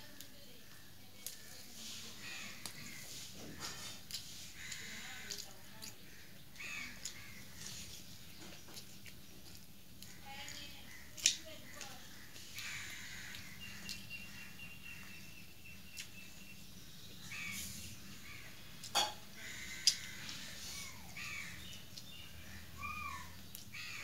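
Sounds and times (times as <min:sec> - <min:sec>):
eating from a steel plate: 0:00.0 - 0:24.0
birds calling: 0:00.4 - 0:24.0.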